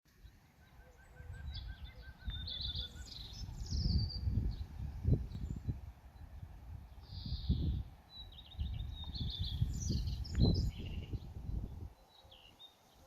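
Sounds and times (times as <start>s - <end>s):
birds singing and chirping: 0.1s - 13.0s
wind buffeting microphone: 1.1s - 12.0s.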